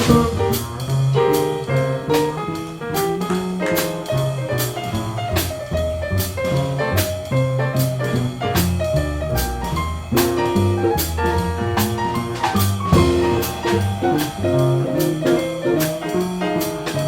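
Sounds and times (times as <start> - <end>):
bass line: 0.0 - 17.0
drums on cymbals: 0.0 - 17.0
piano: 0.0 - 17.0.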